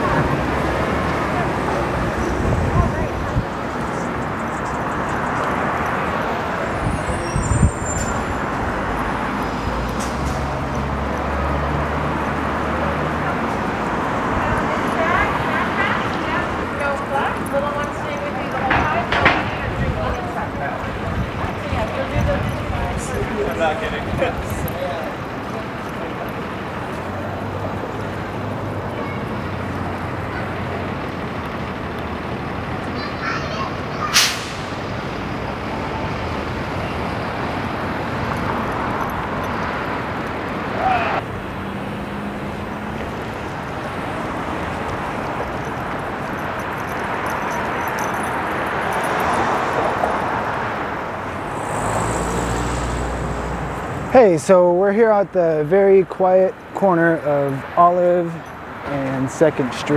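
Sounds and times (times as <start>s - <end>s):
passing cars: 0.0s - 59.9s
street traffic noise: 0.0s - 59.9s.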